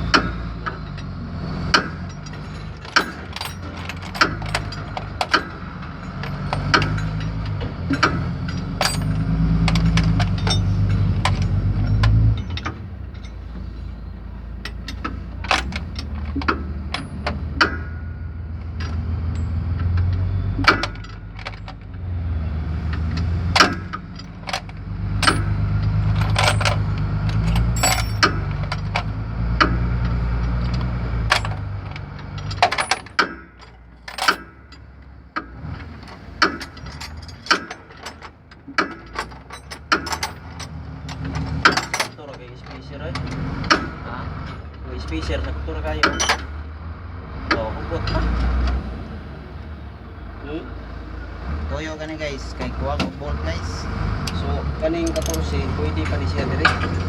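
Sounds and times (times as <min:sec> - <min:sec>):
metal tools clinking on metal: 0:00.0 - 0:46.6, 0:47.5 - 0:57.0
low mechanical drone: 0:00.0 - 0:57.0.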